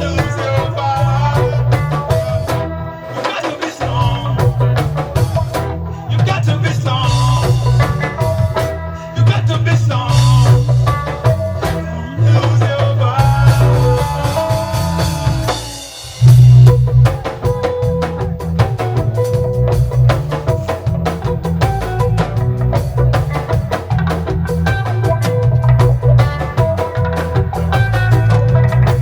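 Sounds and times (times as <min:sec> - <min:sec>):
heavy bass line: 0:00.0 - 0:03.1, 0:03.8 - 0:29.0
reggae band playing: 0:00.0 - 0:29.0.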